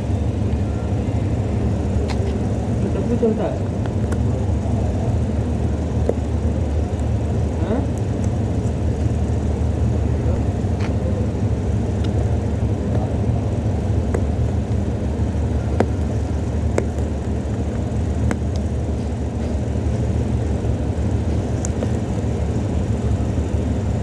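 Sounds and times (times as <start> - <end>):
low rumbling background noise: 0.0 - 24.0.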